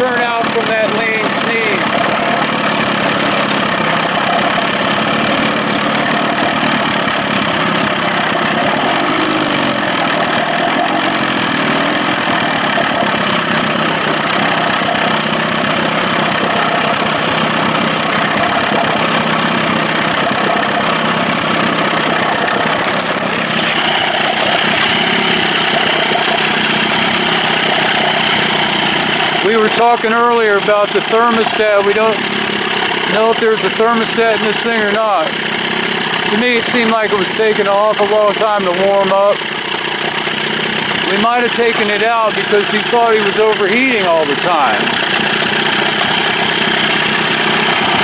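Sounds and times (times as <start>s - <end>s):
outboard motor idling: 0.0s - 48.0s.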